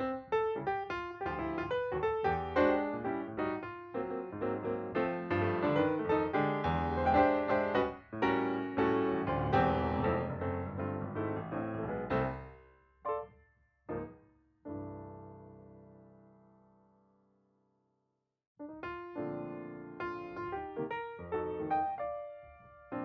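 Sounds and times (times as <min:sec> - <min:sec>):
piano music: 0:00.0 - 0:16.6, 0:18.6 - 0:23.0.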